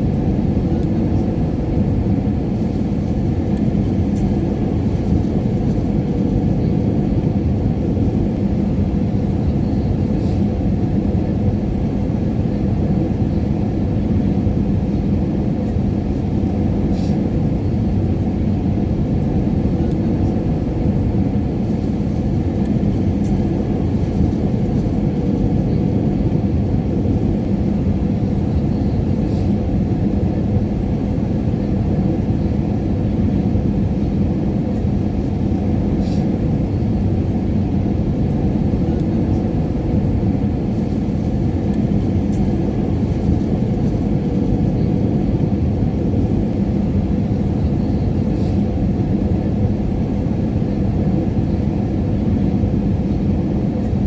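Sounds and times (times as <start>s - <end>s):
faint hum: 0.0s - 53.2s
airliner cabin roar: 0.0s - 54.0s.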